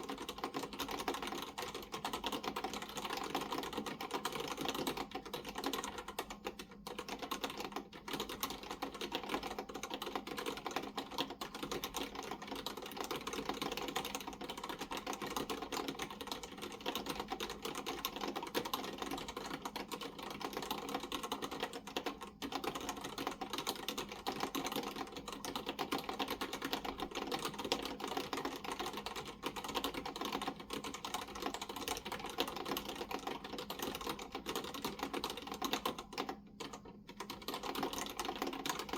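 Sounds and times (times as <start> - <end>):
fast keyboard typing: 0.0 - 38.9.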